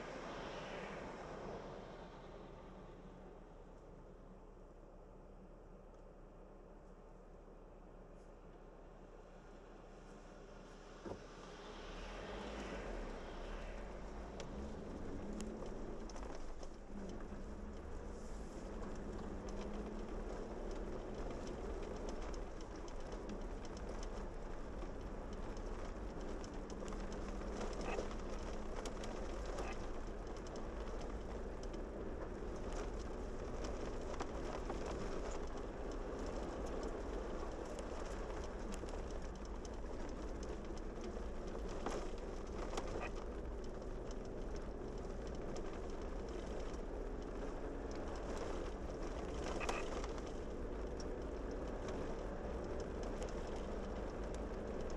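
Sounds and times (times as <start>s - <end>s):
vehicle engine hum: 0.0s - 54.9s.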